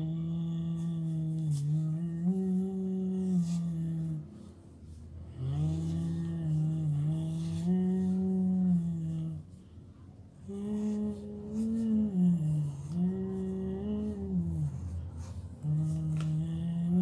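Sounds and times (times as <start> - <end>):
person humming: 0.0 - 4.4, 5.3 - 9.6, 10.4 - 17.0.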